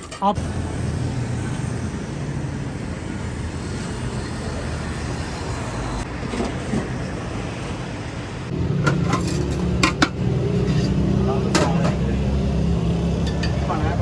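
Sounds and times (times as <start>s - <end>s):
cars running past on road: 0.4s - 14.0s.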